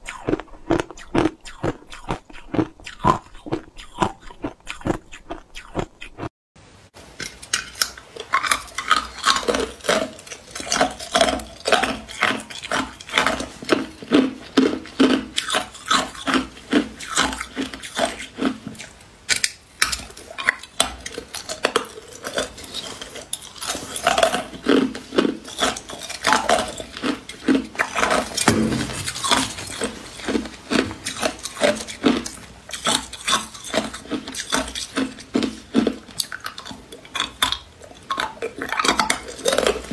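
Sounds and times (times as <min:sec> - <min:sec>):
chewing hard ice: 0:00.0 - 0:06.3, 0:07.2 - 0:39.9.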